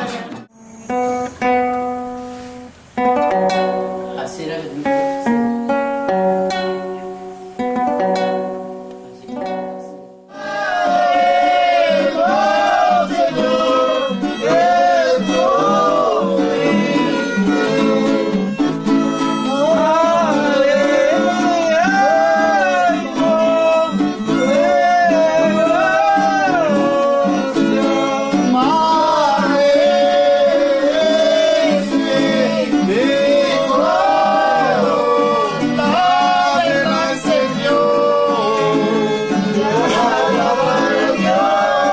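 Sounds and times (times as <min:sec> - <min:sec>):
plucked string instrument: 0:00.0 - 0:41.9.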